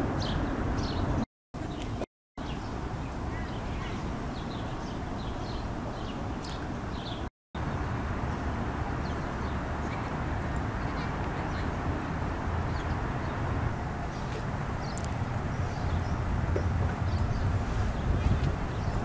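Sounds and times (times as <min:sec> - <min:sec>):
wind rumble on microphone: 0:00.0 - 0:19.0
small birds chirping: 0:00.1 - 0:19.0.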